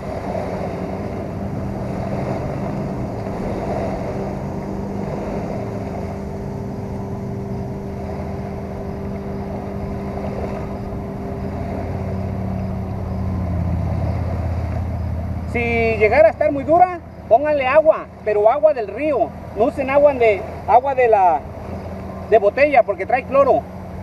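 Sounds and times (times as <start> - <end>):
deeper engine hum: 0.0 - 24.0
steady engine drone: 0.0 - 24.0.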